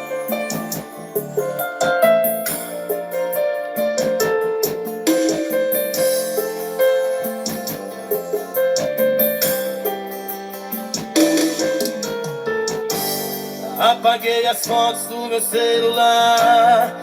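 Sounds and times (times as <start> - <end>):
keyboard music through small speaker: 0.0 - 17.0.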